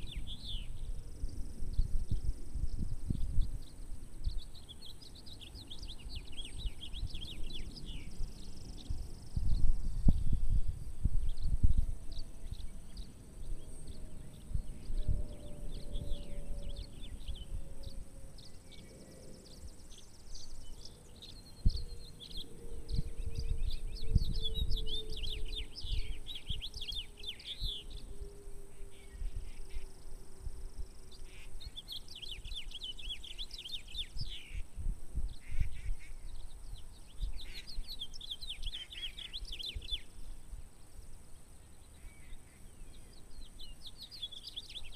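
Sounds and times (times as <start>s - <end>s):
wind buffeting microphone: 0.0s - 40.7s
songbirds singing: 0.0s - 44.9s.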